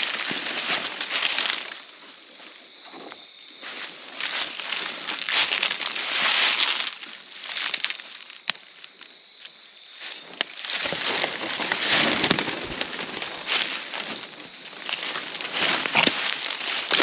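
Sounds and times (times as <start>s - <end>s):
fronds rustling and scraping: 0.0s - 9.1s, 9.9s - 17.0s
footsteps crunching dry leaves: 0.0s - 17.0s.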